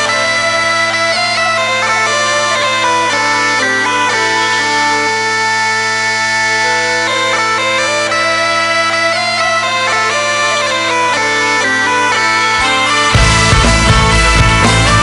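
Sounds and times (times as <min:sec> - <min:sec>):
bagpipe drones: 0:00.0 - 0:15.0
bagpipe melody: 0:00.0 - 0:15.0.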